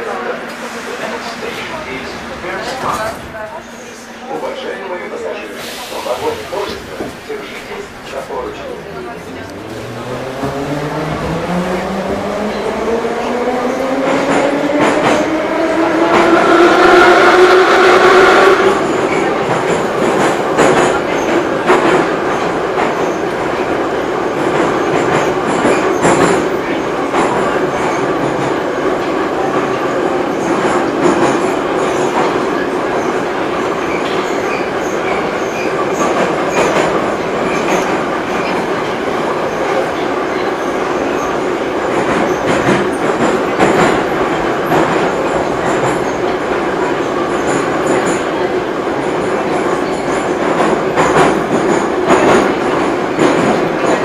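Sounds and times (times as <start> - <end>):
train rumbling through tunnel: 0.0 - 54.0.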